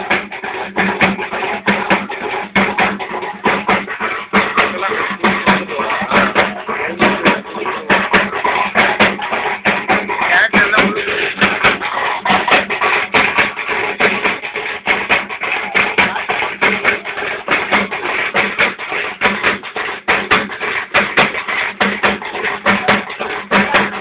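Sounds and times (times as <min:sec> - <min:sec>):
rapid drum strikes: 0:00.0 - 0:24.0.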